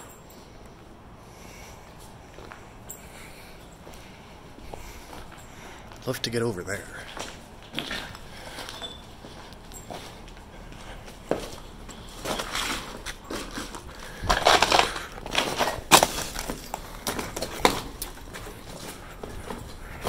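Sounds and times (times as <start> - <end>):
footsteps over debris: 1.8 - 20.0.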